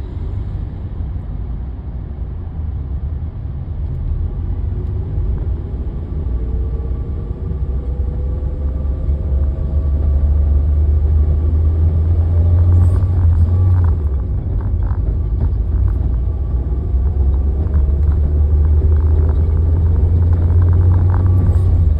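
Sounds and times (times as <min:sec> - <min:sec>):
vehicle low rumble: 0:00.0 - 0:21.9.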